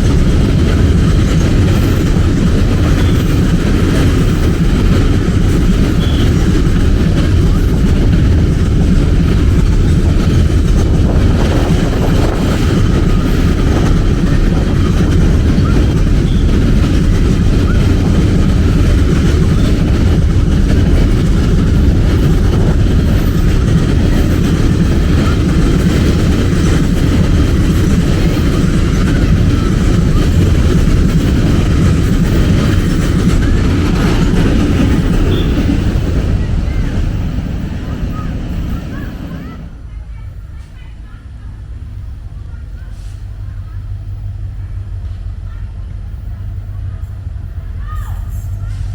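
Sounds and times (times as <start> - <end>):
train rolling past on track: 0.0 - 48.9.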